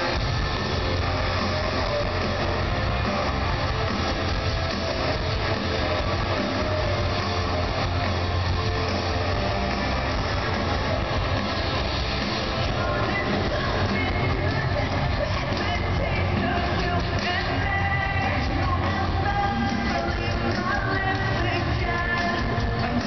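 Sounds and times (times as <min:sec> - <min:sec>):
live band with electric guitar: 0:00.0 - 0:23.0.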